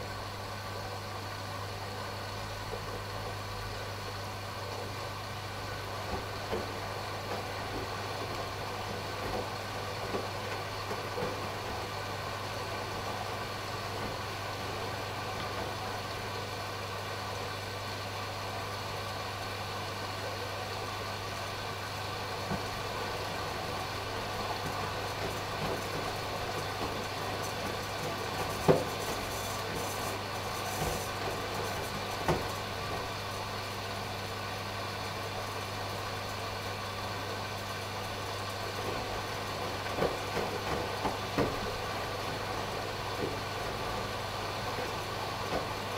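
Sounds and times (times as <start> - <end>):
washing machine hum: 0.0 - 45.9.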